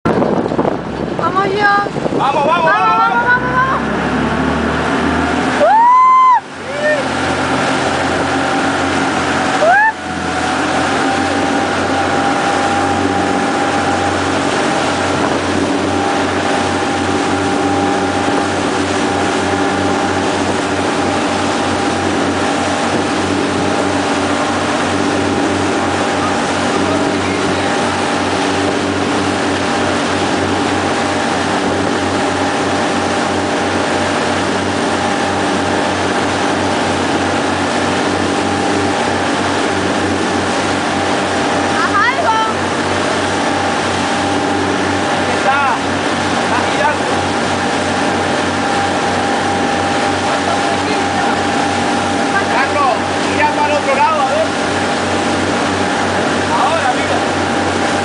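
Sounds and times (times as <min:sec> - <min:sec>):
motorboat engine running: 0:00.0 - 0:58.0
water rushing: 0:00.0 - 0:58.0.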